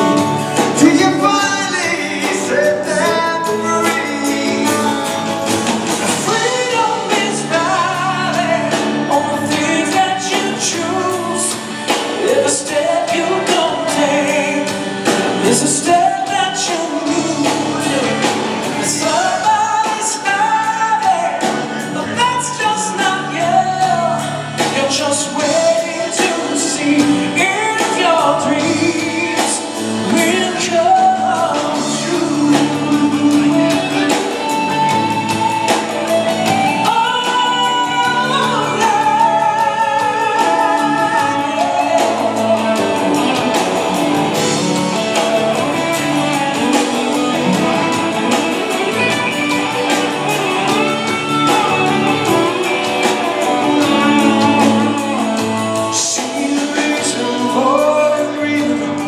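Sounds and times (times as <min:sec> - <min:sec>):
live band playing: 0:00.0 - 0:59.0
man singing into a microphone: 0:00.0 - 0:59.0.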